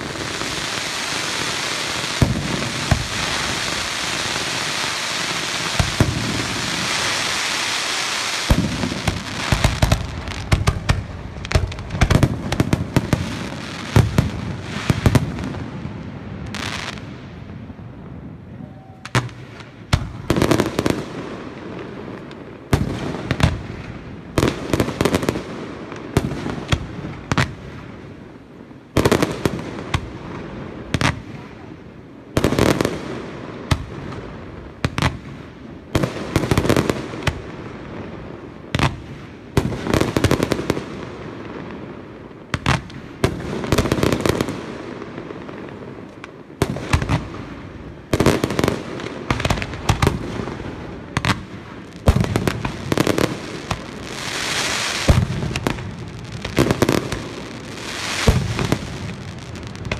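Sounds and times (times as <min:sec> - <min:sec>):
firework stars crackling: 0:00.0 - 0:59.9.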